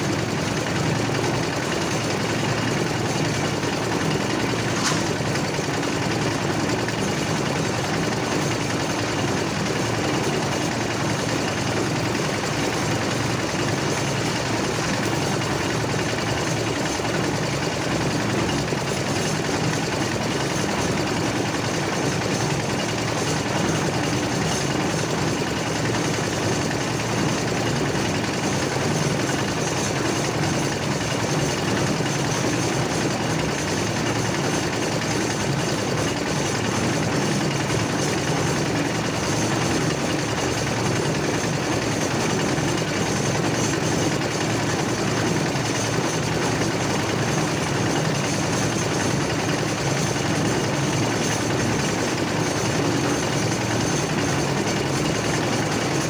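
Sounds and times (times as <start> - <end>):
concrete mixer engine running: 0.0 - 56.0.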